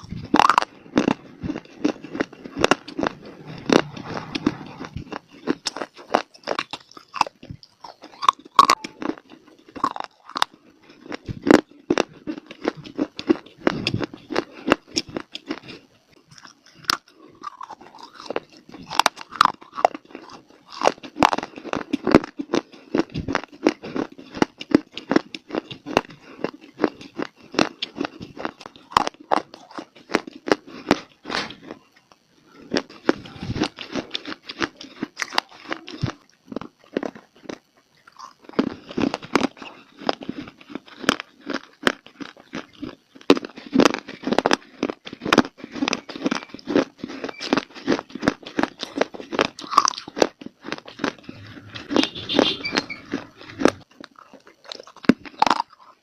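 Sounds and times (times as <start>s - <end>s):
chewing dry clay crunches: 0.0s - 56.0s.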